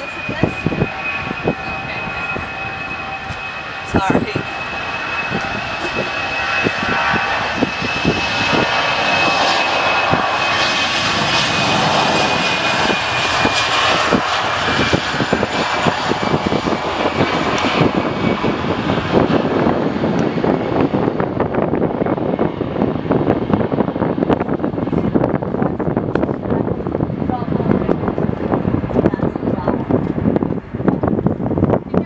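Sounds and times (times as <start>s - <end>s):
high jet fan whine: 0.0s - 32.0s
jet aircraft taking off: 0.0s - 32.0s.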